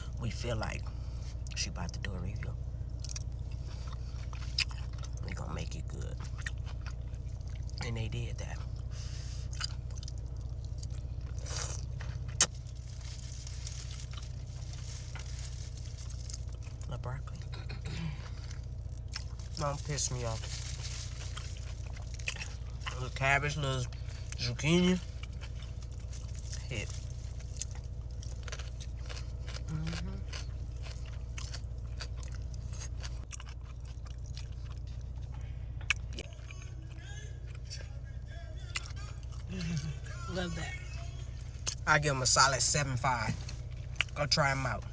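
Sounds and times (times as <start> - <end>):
person chewing and crunching: 0.0 - 44.9
steady low hum: 0.0 - 44.9.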